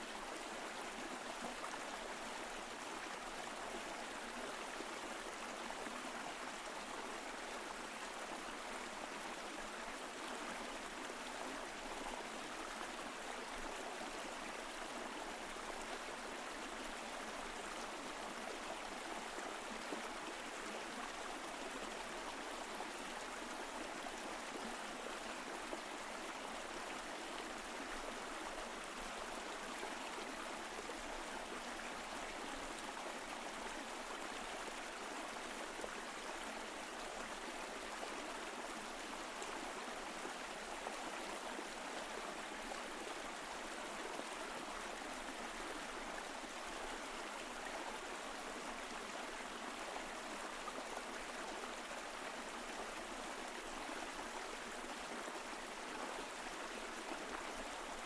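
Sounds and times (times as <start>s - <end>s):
stream flowing over rocks: 0.1s - 58.0s.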